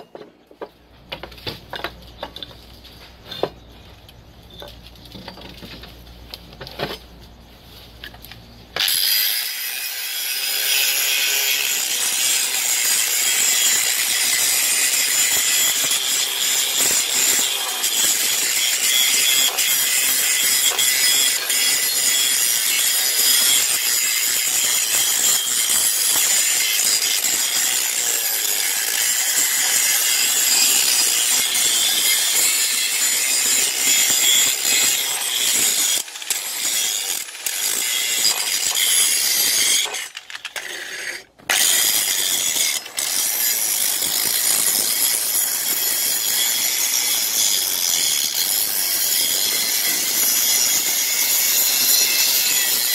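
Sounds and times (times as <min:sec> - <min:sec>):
angle grinder grinding metal: 0:08.8 - 0:52.9.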